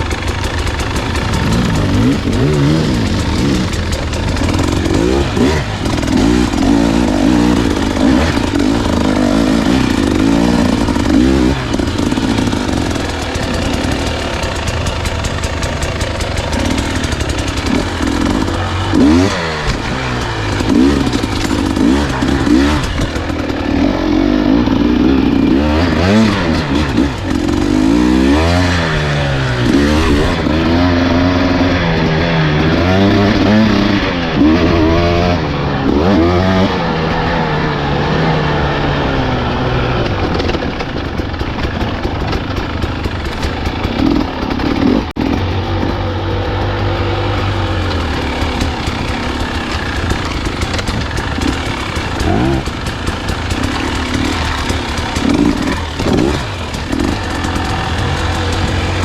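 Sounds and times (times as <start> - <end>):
clatter: 0.0 - 59.0
dirt bike engine revving: 0.0 - 59.0.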